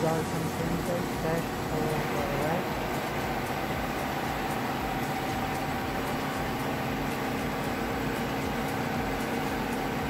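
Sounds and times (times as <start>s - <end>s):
constant high whine: 0.0s - 10.0s
machinery droning: 0.0s - 10.0s.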